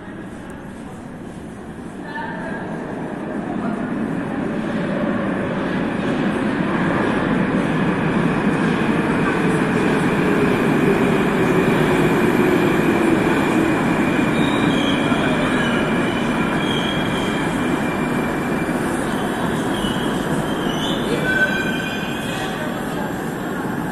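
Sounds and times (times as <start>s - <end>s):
metro train slowing: 0.0s - 23.9s.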